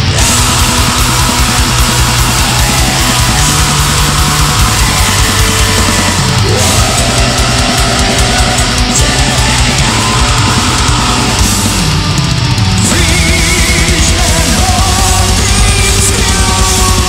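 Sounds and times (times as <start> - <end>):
distorted guitars: 0.0 - 17.0
drums playing loudly: 0.0 - 17.0.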